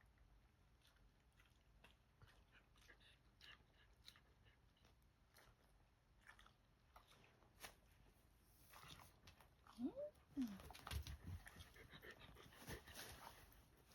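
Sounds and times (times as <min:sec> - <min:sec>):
dog chewing and crunching: 0:00.0 - 0:13.9.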